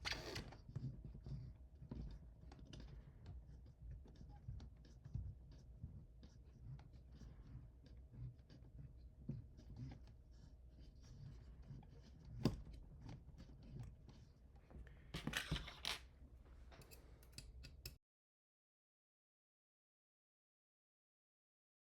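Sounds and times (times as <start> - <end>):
small clicks and scrapes: 0.0 - 18.0.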